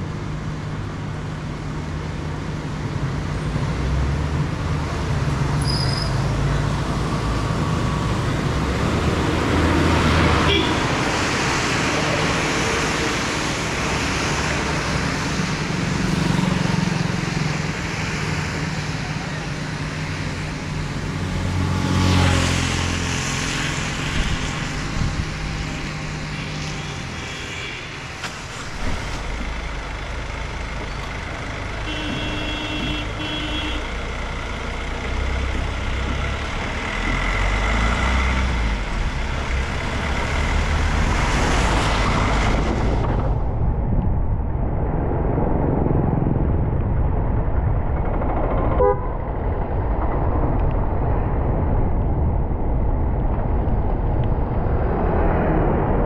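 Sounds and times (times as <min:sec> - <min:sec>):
vehicles passing: 0:00.0 - 0:56.0.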